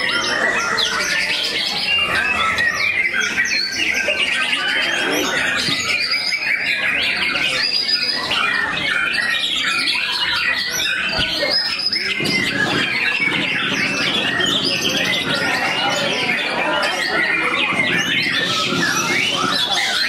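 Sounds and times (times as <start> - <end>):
birds singing with rapid whistles: 0.0 - 20.0.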